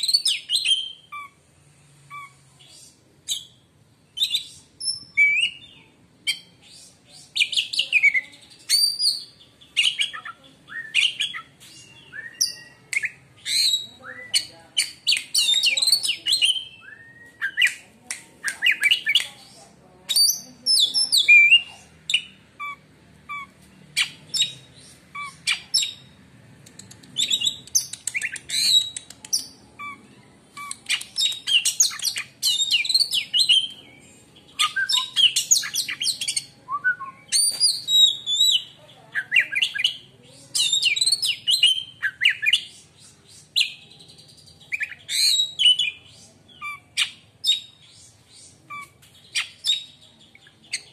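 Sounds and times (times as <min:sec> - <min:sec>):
bird singing chirps and trills: 0:02.1 - 0:17.8, 0:18.5 - 0:26.2, 0:27.0 - 0:50.9.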